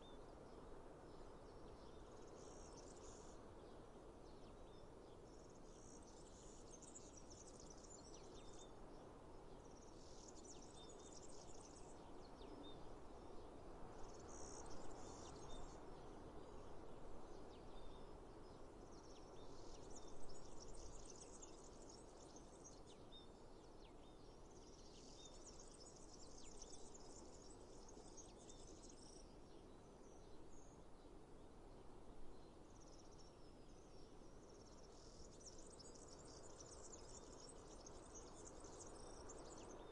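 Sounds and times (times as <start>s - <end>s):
soft steady rush: 0.0s - 39.9s.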